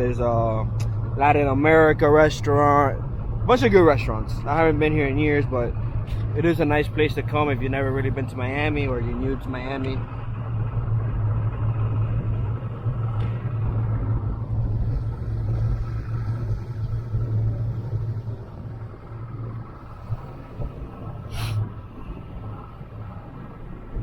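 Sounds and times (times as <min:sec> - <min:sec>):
outboard engine droning: 0:00.0 - 0:24.0.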